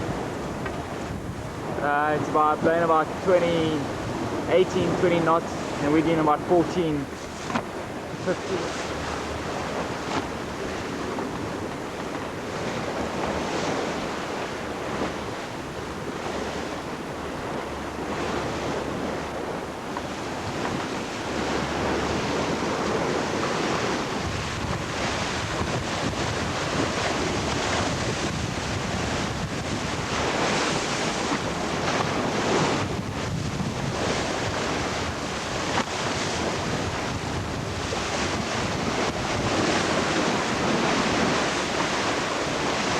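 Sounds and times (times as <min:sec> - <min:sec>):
sea splashing past hull: 0:00.0 - 0:42.9
wind buffeting microphone: 0:00.0 - 0:42.9.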